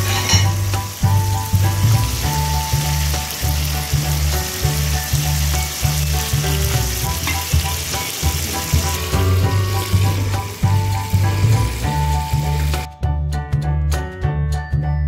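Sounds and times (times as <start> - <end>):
food sizzling in a frying pan: 0.0 - 12.9
music with pulsing bass: 0.0 - 15.0.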